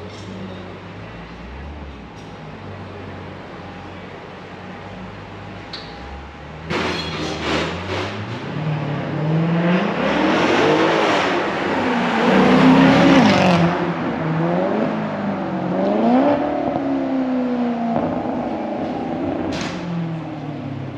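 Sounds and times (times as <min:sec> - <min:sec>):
car engine revving: 0:01.1 - 0:20.9.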